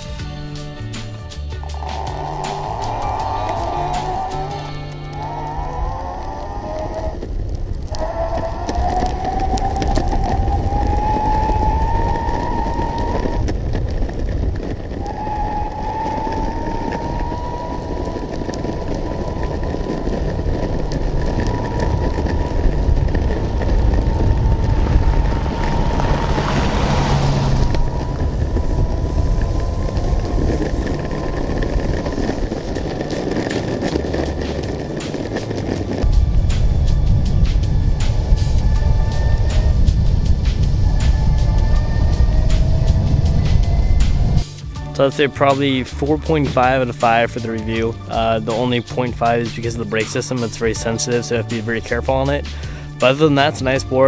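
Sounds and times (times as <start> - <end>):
skateboard wheels rumbling on asphalt: 0.0 - 54.0
electric motor whine: 1.6 - 44.9.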